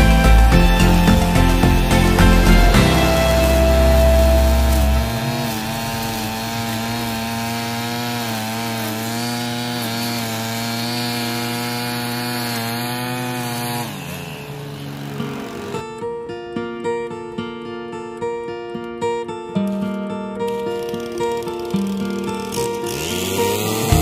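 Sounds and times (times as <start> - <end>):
string trimmer cutting grass: 0.0 - 16.0, 19.6 - 24.0.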